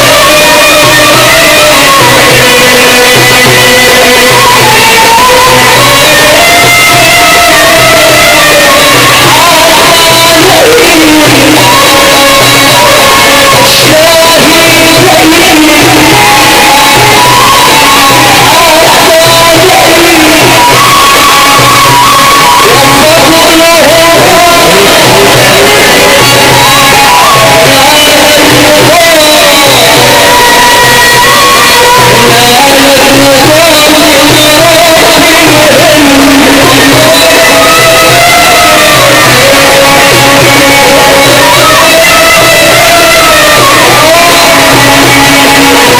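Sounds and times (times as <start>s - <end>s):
instrumental accompaniment: 0.0s - 45.9s
man singing a hymn over loudspeakers: 0.0s - 45.9s.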